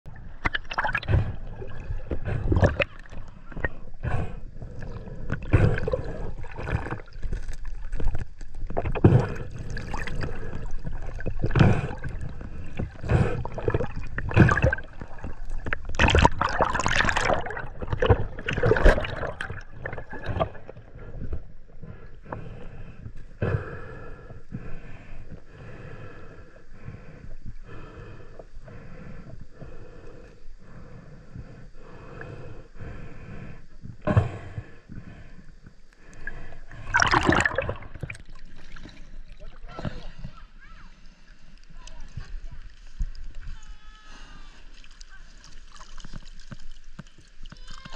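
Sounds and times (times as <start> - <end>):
water sloshing and gurgling: 0.0 - 43.8, 44.4 - 47.9.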